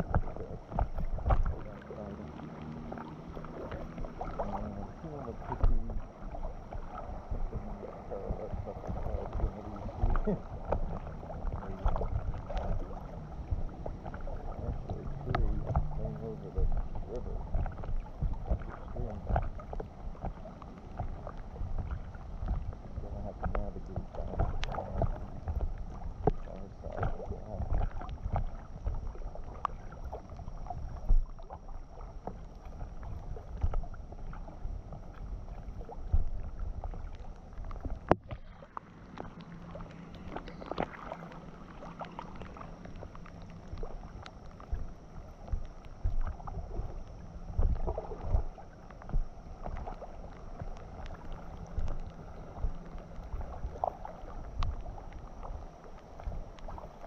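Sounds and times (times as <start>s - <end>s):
water splashing against kayak: 0.0s - 57.0s.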